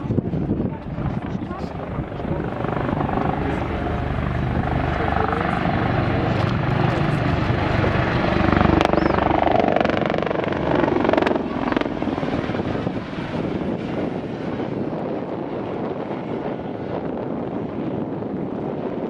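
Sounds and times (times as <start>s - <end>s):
helicopter flying past: 0.0s - 19.0s.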